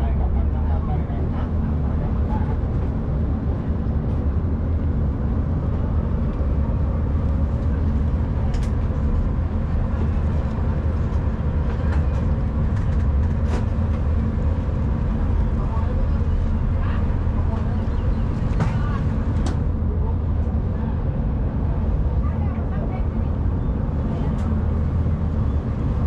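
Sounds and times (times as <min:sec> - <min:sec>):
vehicle engine drone: 0:00.0 - 0:26.0.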